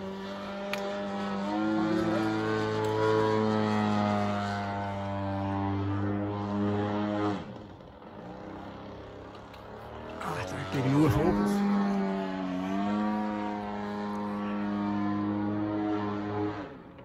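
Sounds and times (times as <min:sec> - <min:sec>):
model plane two-stroke engine: 0:00.0 - 0:17.0.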